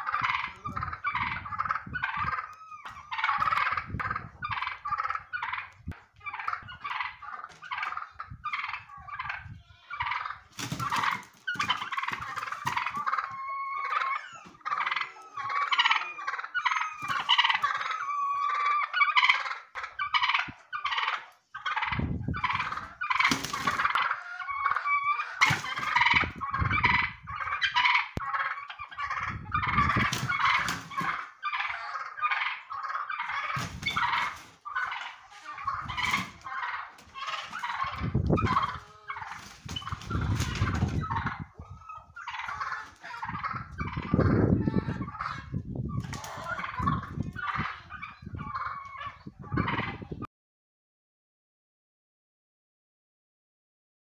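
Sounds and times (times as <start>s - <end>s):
turkeys gobbling: 0.0s - 50.3s.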